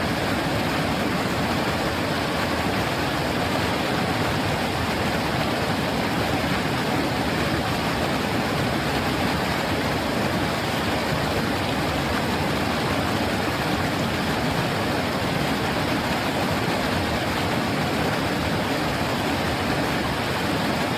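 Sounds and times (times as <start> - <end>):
river water over stones: 0.0 - 20.9.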